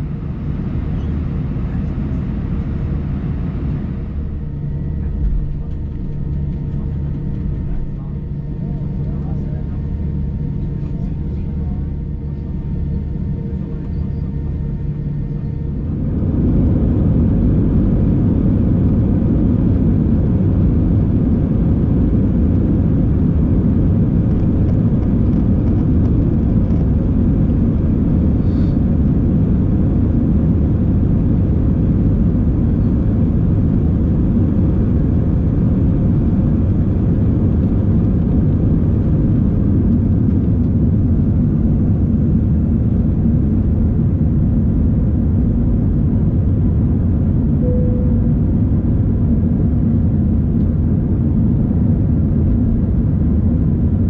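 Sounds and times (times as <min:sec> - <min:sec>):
jet engines whining and rumbling: 0:00.0 - 0:54.0.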